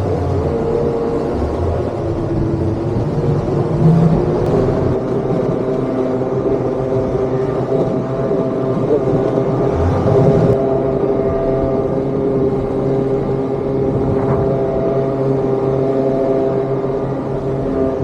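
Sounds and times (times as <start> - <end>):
motorised surfboard engine running: 0.0 - 18.0.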